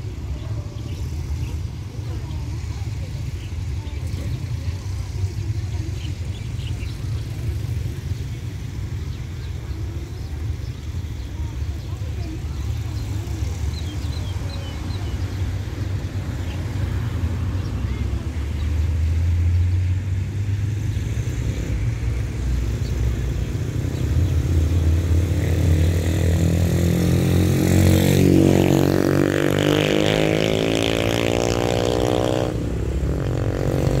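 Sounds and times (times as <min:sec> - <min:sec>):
engine running low: 0:00.0 - 0:34.0.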